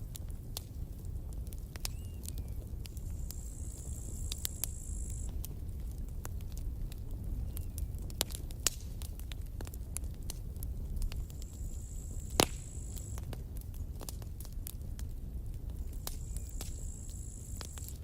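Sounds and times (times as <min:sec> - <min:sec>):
low rumble of flame: 0:00.0 - 0:18.0
wood crackling and popping: 0:00.0 - 0:18.0.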